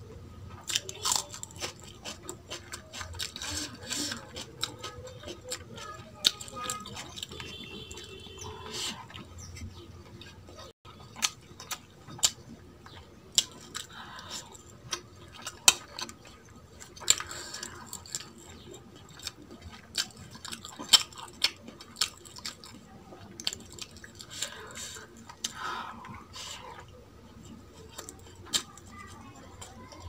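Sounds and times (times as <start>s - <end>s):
chewing with wet clicks: 0.0s - 30.0s.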